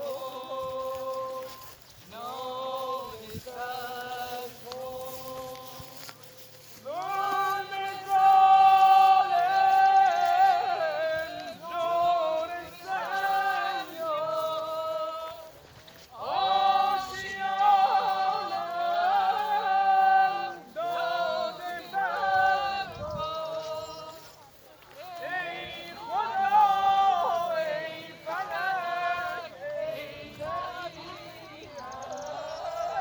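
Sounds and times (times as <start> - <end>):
person singing unaccompanied: 0.0 - 33.0.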